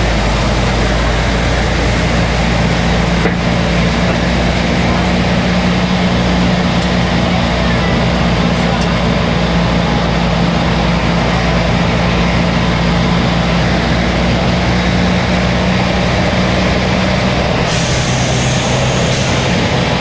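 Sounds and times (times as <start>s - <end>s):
tram engine running: 0.0s - 20.0s.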